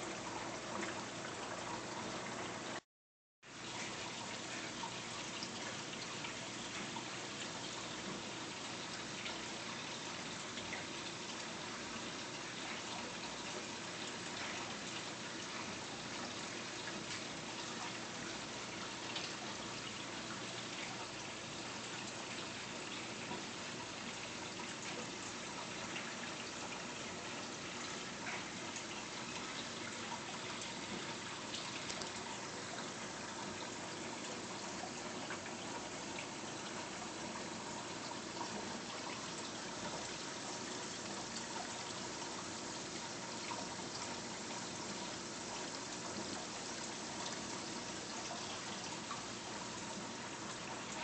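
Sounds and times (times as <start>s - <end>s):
water trickling: 0.0s - 2.8s, 3.5s - 51.0s.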